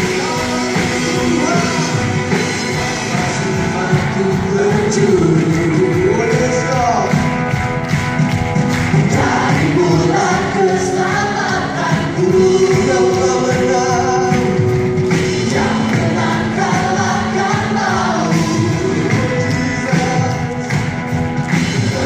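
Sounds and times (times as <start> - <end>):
group singing together: 0.0 - 5.8, 8.8 - 20.8
live band playing: 0.0 - 22.0.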